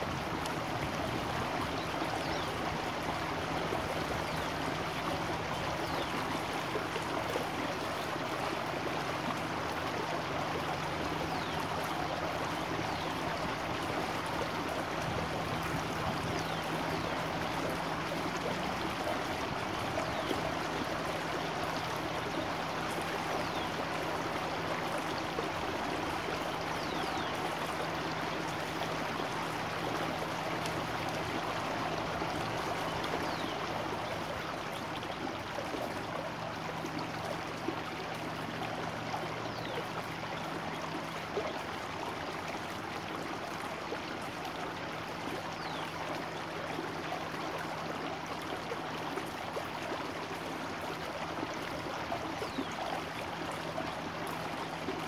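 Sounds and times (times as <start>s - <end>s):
stream rushing and burbling: 0.0s - 55.0s.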